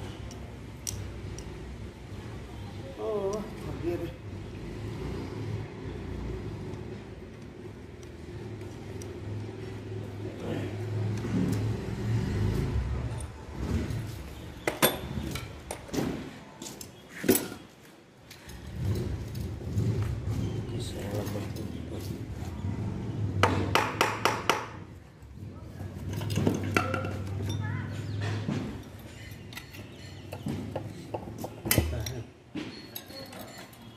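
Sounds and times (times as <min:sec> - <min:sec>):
vehicle engine rumbling: 0:00.0 - 0:16.6, 0:18.2 - 0:33.9.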